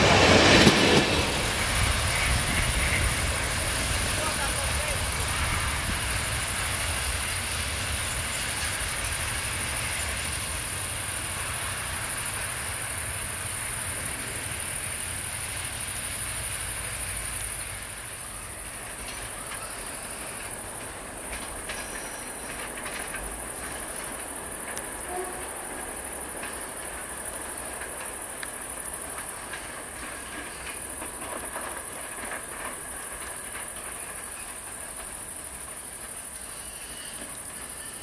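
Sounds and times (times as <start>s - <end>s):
train rumbling along track: 0.0s - 38.0s.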